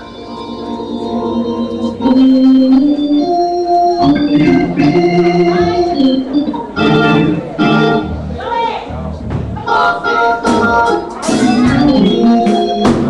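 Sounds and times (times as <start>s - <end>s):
organ playing sustained chords: 0.0s - 8.4s, 9.6s - 13.0s.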